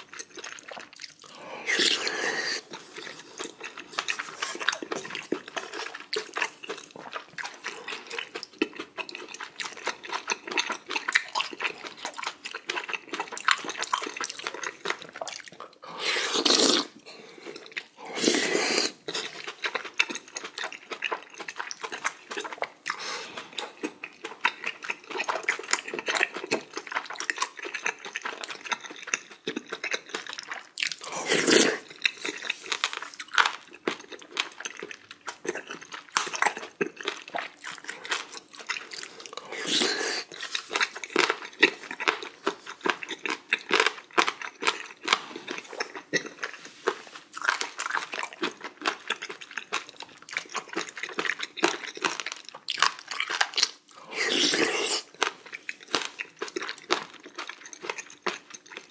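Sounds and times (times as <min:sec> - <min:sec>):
wet chewing and slurping: 0:00.0 - 0:58.9.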